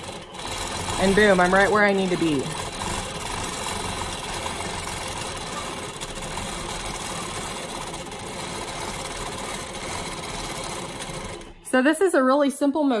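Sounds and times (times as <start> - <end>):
quilting machine stitching: 0.0 - 11.8.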